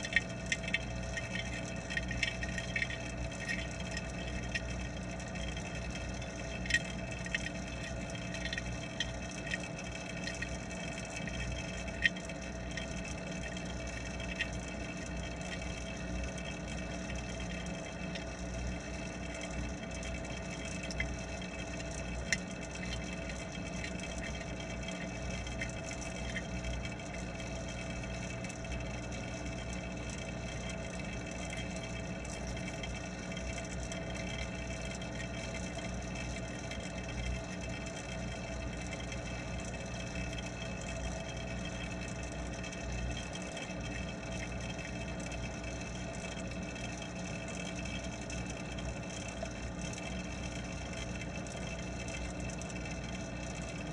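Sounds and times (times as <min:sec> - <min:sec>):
small clicks: 0:00.0 - 0:53.9
water noise: 0:00.0 - 0:53.9
water pump humming: 0:00.0 - 0:53.9.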